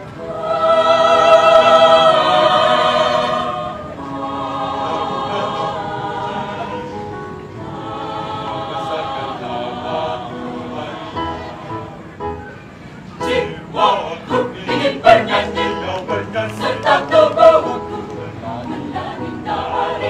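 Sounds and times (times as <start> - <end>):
choir singing in harmony: 0.0 - 12.2, 13.2 - 20.0.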